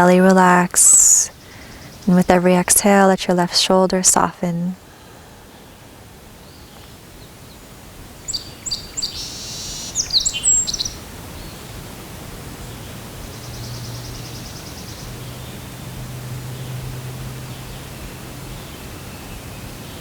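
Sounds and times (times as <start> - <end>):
songbirds chirping: 0.0 - 3.2, 3.8 - 20.0
outdoor hiss: 0.0 - 20.0.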